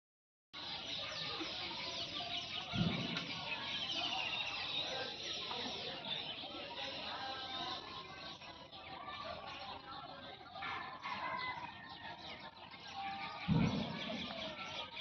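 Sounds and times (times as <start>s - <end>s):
birds chirping chorus: 0.6s - 15.0s.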